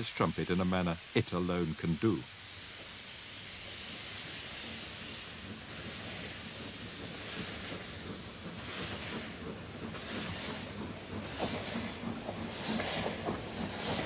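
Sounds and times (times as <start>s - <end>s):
steam hissing: 0.0s - 14.0s
steam locomotive exhaust beats: 0.0s - 14.0s.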